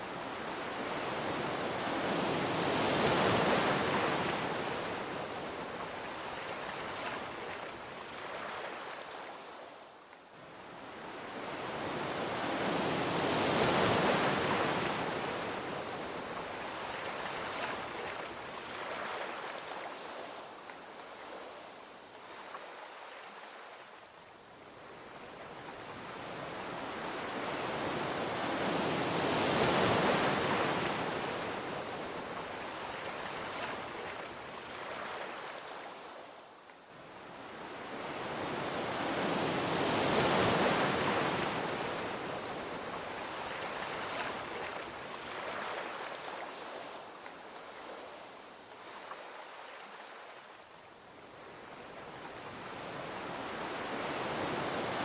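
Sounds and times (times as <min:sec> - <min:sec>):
ocean waves on a beach: 0:00.0 - 0:55.0.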